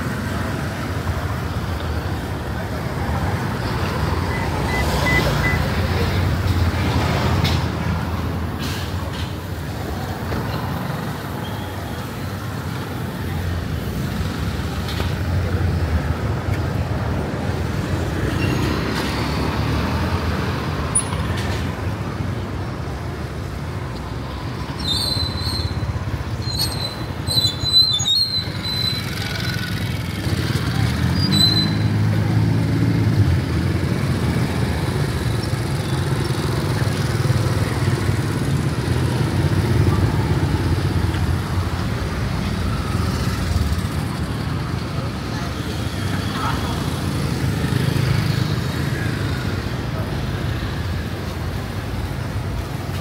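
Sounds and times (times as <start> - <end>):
passing traffic: 0.0 - 53.0.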